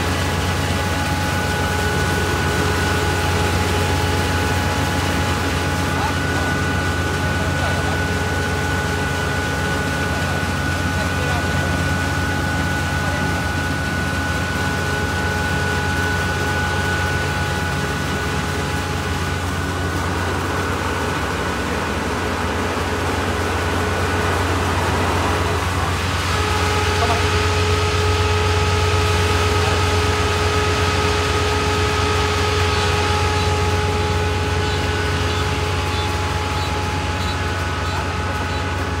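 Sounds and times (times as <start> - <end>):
combine harvester engine drone: 0.0 - 39.0
high whine: 0.0 - 39.0.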